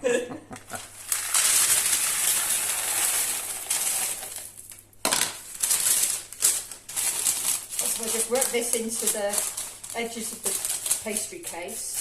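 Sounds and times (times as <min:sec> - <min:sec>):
baking beans rattling onto paper: 0:00.7 - 0:12.0.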